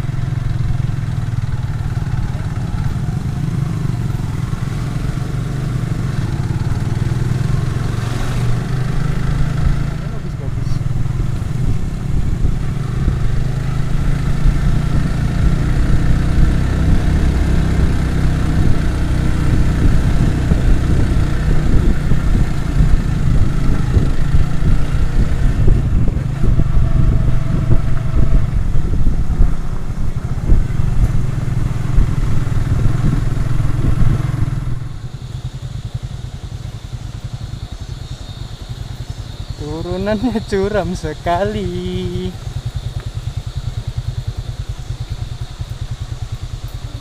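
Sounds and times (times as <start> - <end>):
motorcycle engine running: 0.0 - 47.0
wind buffeting microphone: 0.0 - 47.0.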